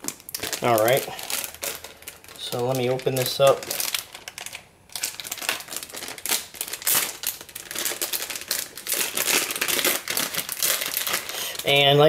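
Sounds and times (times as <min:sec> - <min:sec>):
packaging torn and crinkled: 0:00.0 - 0:12.0.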